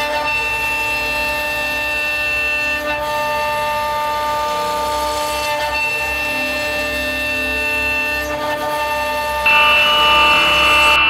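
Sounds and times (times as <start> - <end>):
end mill cutting wood: 0.0 - 11.0
router spindle whining: 0.0 - 11.0.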